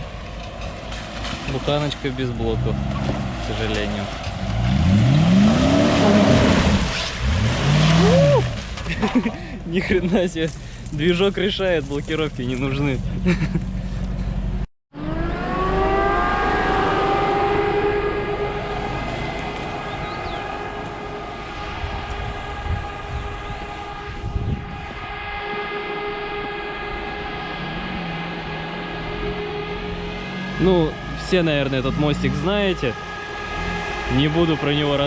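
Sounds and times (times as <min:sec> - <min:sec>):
vehicle engine revving: 0:00.0 - 0:35.0.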